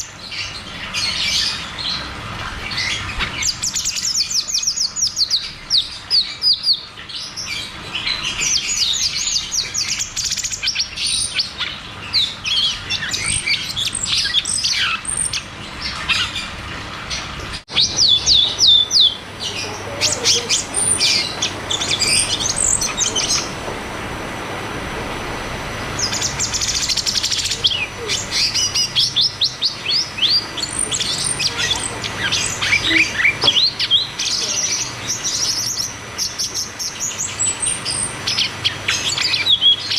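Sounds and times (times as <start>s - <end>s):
bird singing trills: 0.0s - 23.6s, 25.9s - 39.9s.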